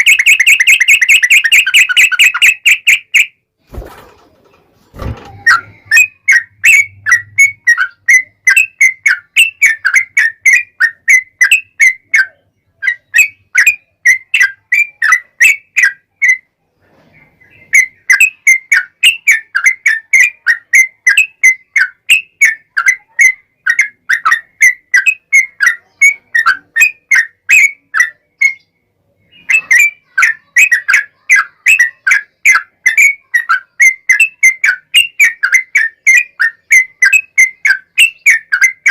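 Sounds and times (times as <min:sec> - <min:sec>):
bird singing whistled notes: 0:00.0 - 0:03.4, 0:05.4 - 0:16.5, 0:17.2 - 0:38.9.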